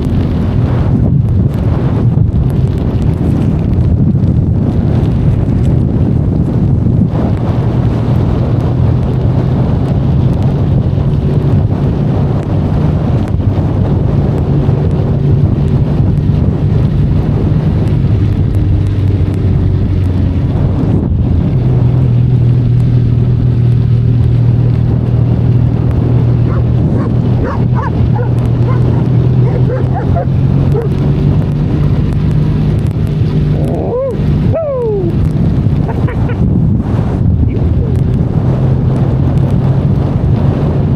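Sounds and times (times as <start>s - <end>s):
motorcycle engine running: 0.0s - 40.9s
rain noise: 0.0s - 40.9s
wind noise: 0.0s - 40.9s.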